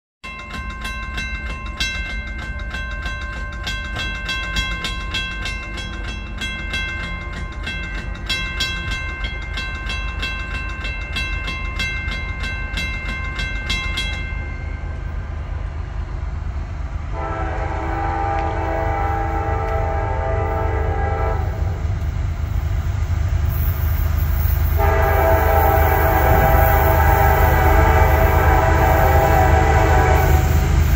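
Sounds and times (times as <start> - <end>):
crossing warning bell ringing: 0.2 - 15.8, 17.2 - 21.7, 23.7 - 30.9.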